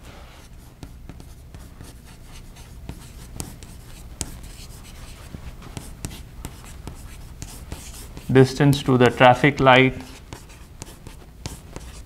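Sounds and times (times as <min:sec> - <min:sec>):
chalk scratching on blackboard: 0:00.4 - 0:12.0
chalk tapping on board: 0:00.8 - 0:02.0, 0:02.8 - 0:12.0.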